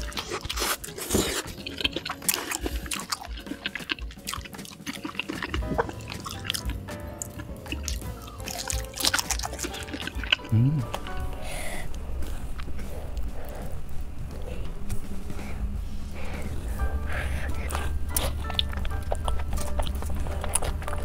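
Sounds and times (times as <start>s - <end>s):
background music: 0.0s - 21.0s
wet chewing and mouth clicks: 0.0s - 21.0s.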